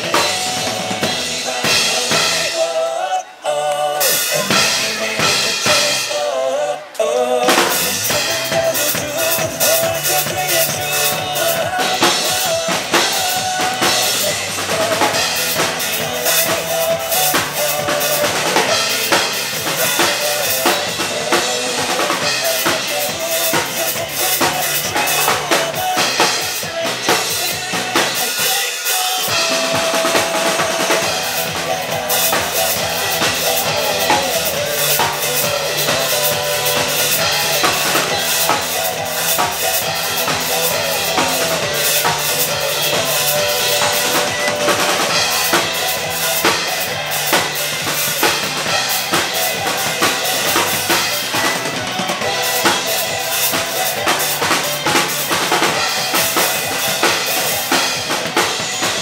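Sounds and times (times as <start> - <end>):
drum kit playing rock beat: 0.0 - 3.0, 3.7 - 6.4, 7.4 - 59.0
recorded backing track: 0.0 - 59.0.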